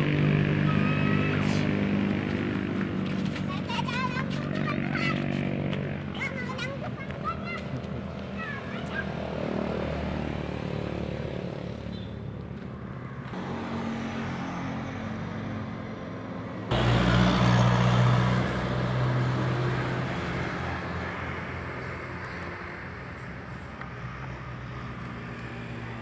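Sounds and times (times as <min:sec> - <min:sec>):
motorbikes passing: 0:00.0 - 0:26.0
road traffic engines: 0:00.0 - 0:26.0.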